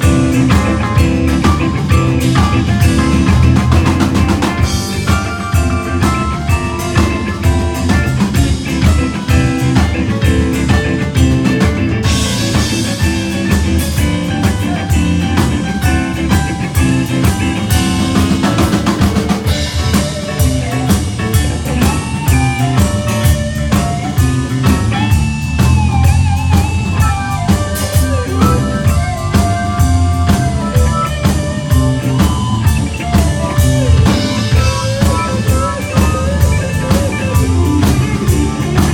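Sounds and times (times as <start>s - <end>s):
blues-rock band playing: 0.0s - 38.9s
guitar lead with bent notes: 0.0s - 38.9s.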